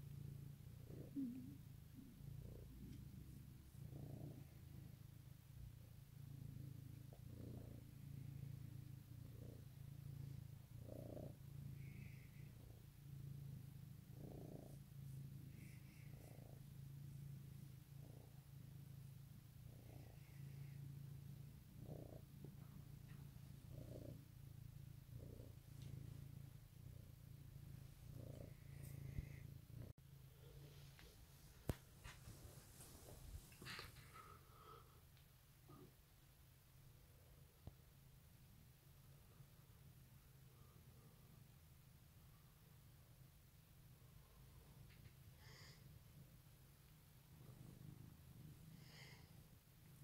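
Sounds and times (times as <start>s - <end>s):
cat purring: 0.0s - 50.0s.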